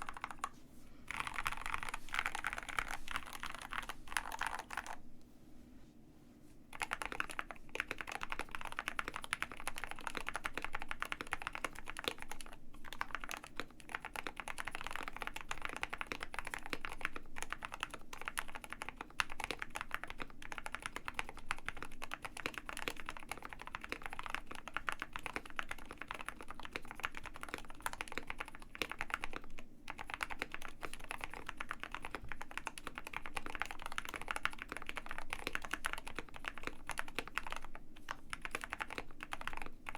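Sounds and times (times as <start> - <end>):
fast typing on mechanical keyboard: 0.0 - 0.5, 1.1 - 5.0, 6.7 - 39.9.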